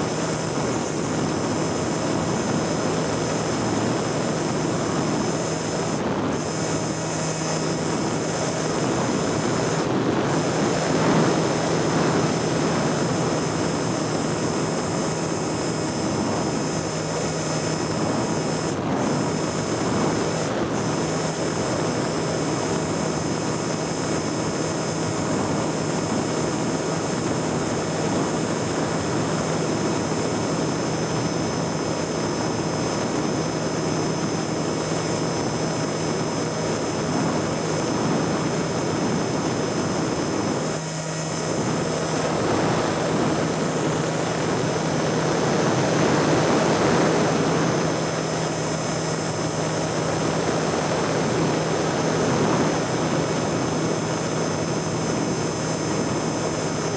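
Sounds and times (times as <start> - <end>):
propeller aircraft engine droning: 0.0 - 56.9.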